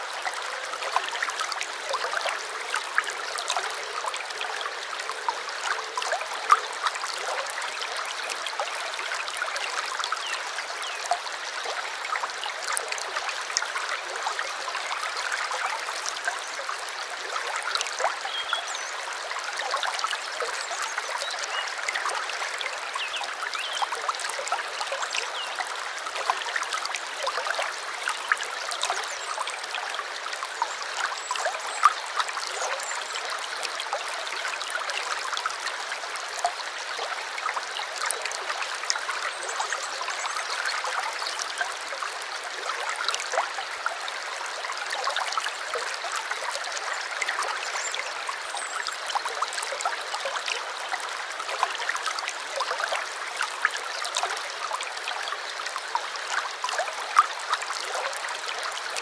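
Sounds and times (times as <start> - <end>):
small water splashes and drips: 0.0 - 59.0
stream trickling and babbling: 0.0 - 59.0.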